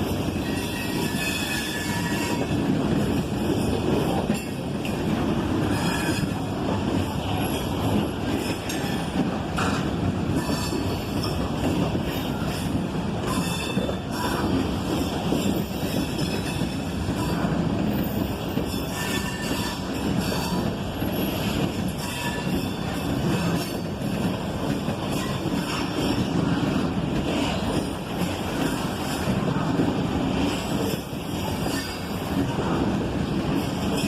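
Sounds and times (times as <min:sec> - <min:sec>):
wheels clicking over rail joints: 0:00.0 - 0:32.5
train cars rolling past: 0:00.0 - 0:34.0.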